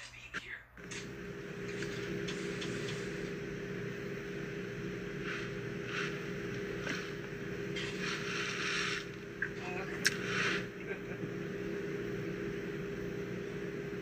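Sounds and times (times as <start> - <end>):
mechanical hum inside car: 0.8 - 14.0.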